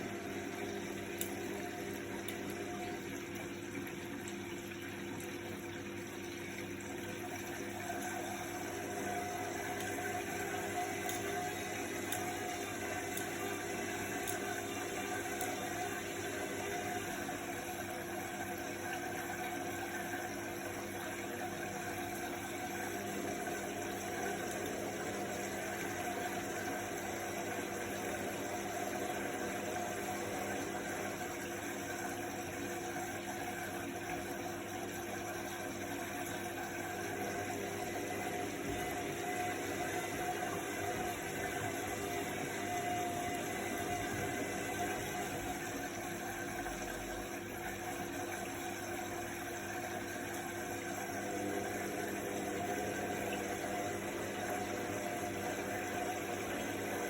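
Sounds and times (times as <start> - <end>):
washing machine drum humming: 0.0 - 57.0.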